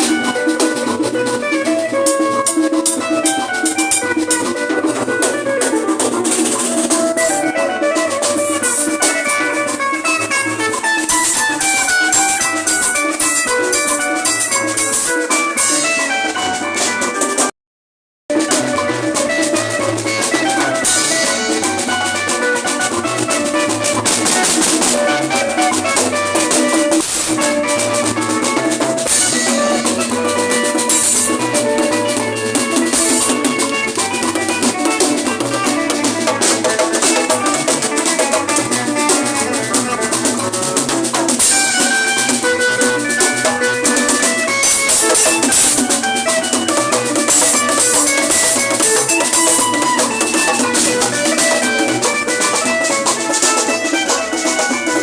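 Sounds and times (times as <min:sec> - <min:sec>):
music with drum beat: 0:00.0 - 0:17.5, 0:18.3 - 0:55.0.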